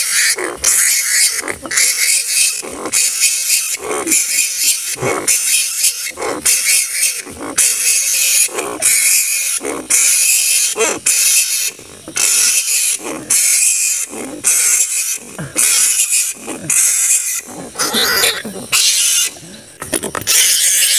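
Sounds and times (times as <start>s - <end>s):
flying foxes screeching: 0.0s - 19.4s, 20.3s - 20.9s.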